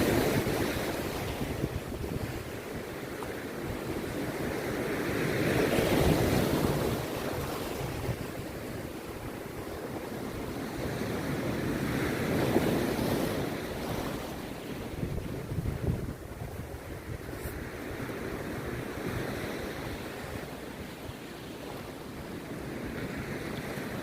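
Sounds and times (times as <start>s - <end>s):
waves breaking: 0.0s - 24.0s.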